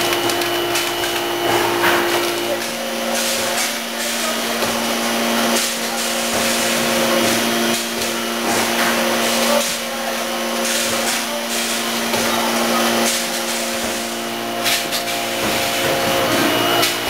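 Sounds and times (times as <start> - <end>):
packaging machine humming: 0.0 - 17.0.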